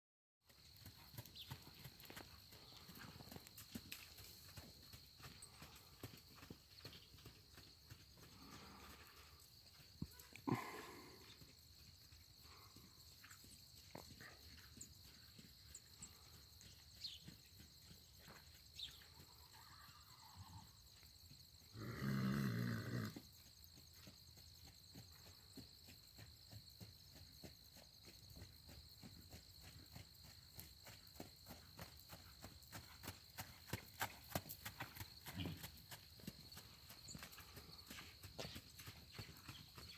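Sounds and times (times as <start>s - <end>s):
horse hoofbeats on dirt: 0.4s - 39.9s.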